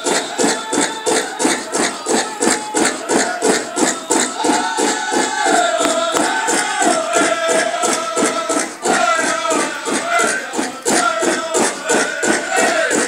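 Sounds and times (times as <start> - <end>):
big drum steady fast beat: 0.0 - 13.0
high-pitched group singing: 0.0 - 13.0.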